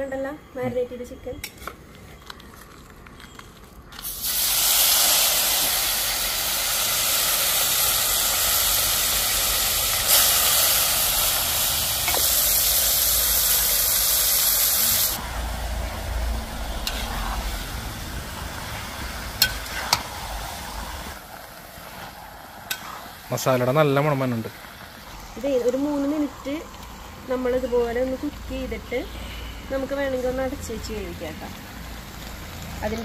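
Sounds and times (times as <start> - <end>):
chicken sizzling in hot oil: 4.0 - 28.9, 29.7 - 33.0.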